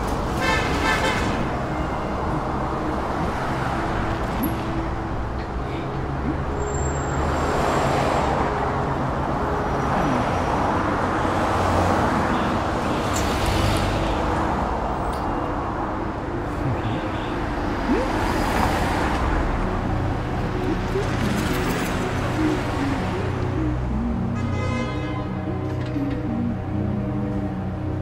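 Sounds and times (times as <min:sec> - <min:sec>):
passing cars: 0:00.0 - 0:28.0.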